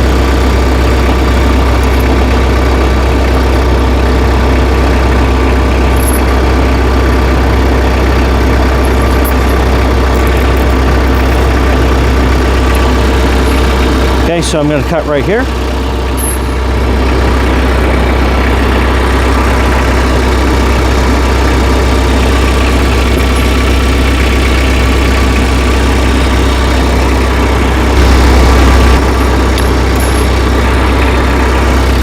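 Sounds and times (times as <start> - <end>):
tractor engine idling: 0.0 - 32.0.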